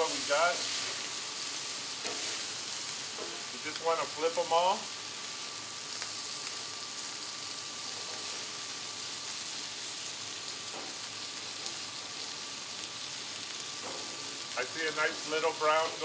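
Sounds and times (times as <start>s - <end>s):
chicken wings sizzling on griddle: 0.0s - 16.0s.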